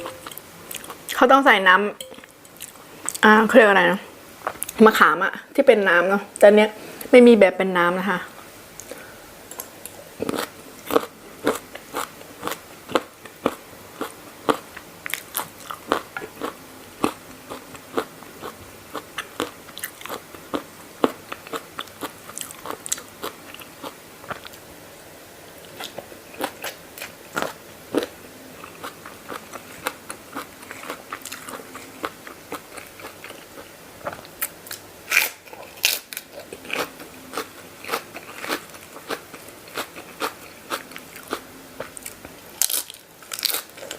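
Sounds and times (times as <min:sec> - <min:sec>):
person chewing crunchy food: 0:00.0 - 0:01.2, 0:08.8 - 0:24.6, 0:25.6 - 0:43.9.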